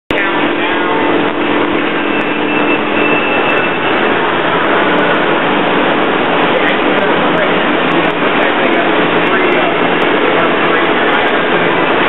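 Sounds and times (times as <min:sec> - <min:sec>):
industrial machinery running: 0:00.1 - 0:12.0
steady hum: 0:00.1 - 0:12.0.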